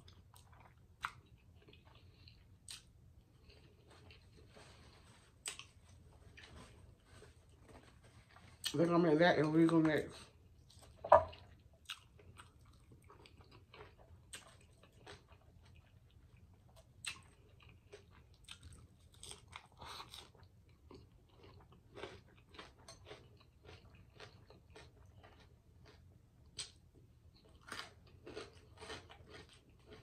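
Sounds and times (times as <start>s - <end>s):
faint chewing of food: 0.0s - 30.0s.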